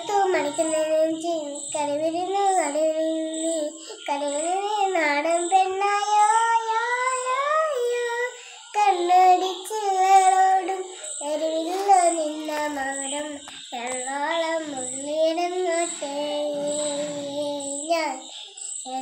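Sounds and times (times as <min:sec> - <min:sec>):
girl singing: 0:00.0 - 0:19.0.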